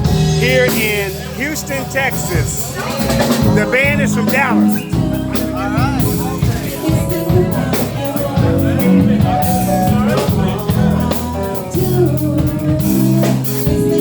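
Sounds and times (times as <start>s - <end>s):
bass guitar: 0.0s - 14.0s
drum kit: 0.0s - 14.0s
electric guitar: 0.0s - 14.0s
person singing: 0.1s - 14.0s.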